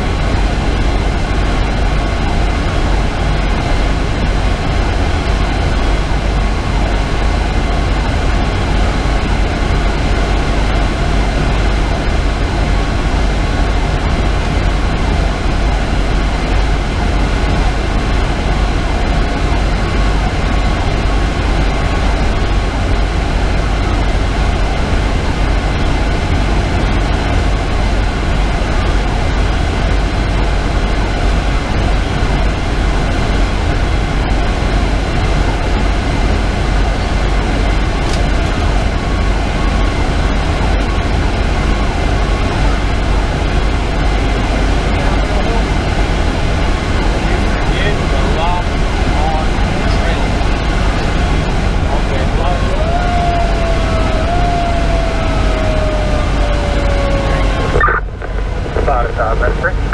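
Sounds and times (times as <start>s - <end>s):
fire engine in-cab rumble: 0.0s - 59.9s.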